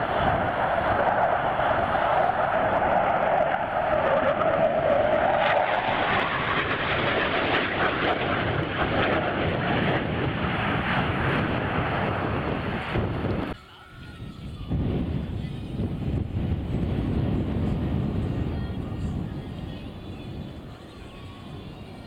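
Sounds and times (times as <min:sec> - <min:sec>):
aircraft engine flying past: 0:00.0 - 0:22.0.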